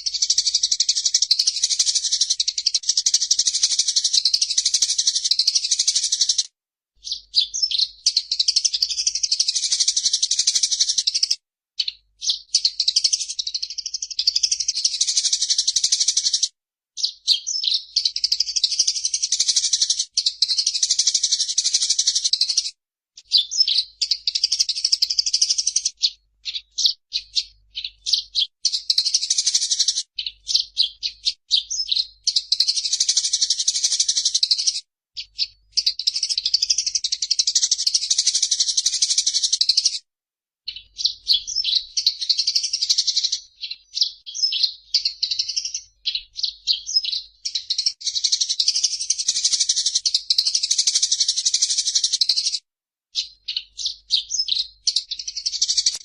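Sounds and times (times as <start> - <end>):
sparrow chattering: 0.0 - 40.0, 40.7 - 52.6, 53.2 - 56.0.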